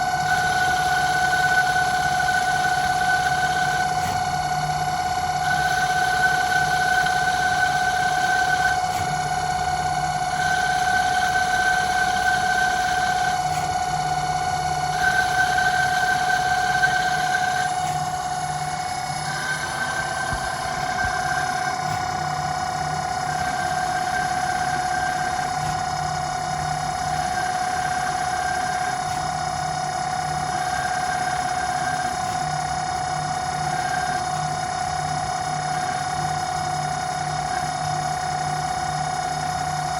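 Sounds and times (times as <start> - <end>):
lathe high-pitched whine: 0.0 - 39.9.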